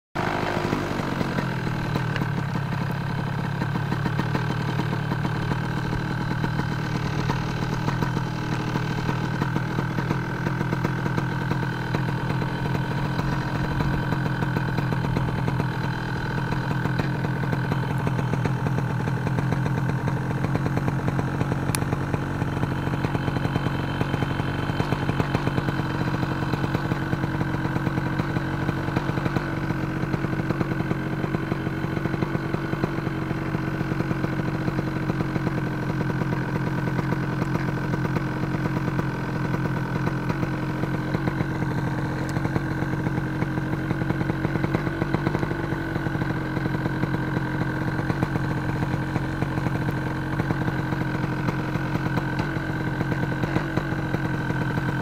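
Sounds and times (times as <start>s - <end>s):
two-stroke engine idling: 0.2s - 55.0s.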